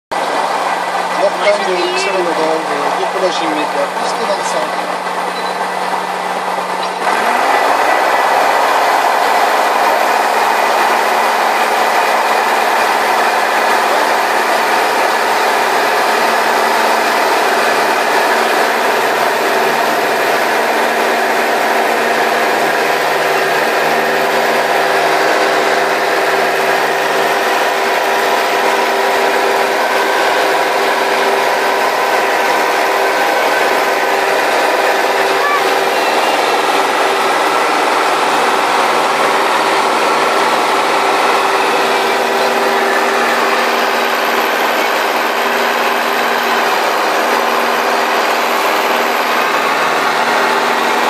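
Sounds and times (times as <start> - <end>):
light aircraft engine at full power: 0.1 - 51.0.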